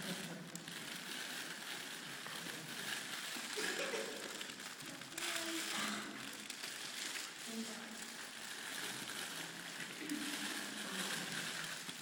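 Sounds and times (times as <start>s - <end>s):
cellophane rustling and crinkling: 0.0s - 12.0s.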